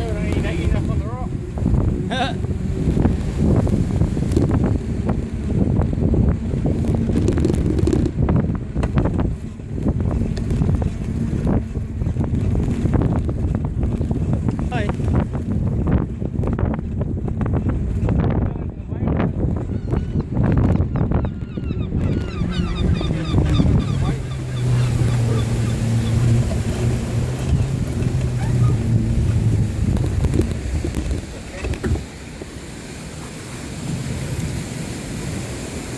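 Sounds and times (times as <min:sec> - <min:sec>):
low motor hum: 0:00.0 - 0:35.8
wind buffeting microphone: 0:00.0 - 0:35.9.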